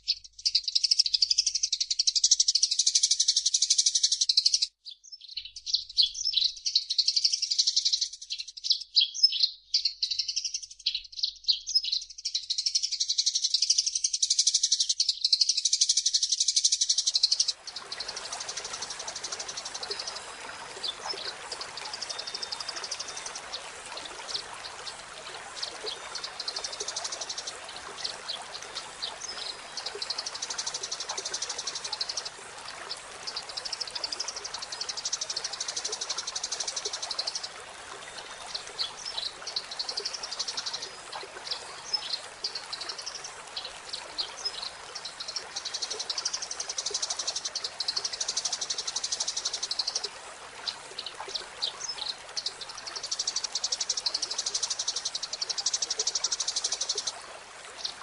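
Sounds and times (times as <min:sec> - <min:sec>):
sparrows chirping: 0:00.0 - 0:57.1.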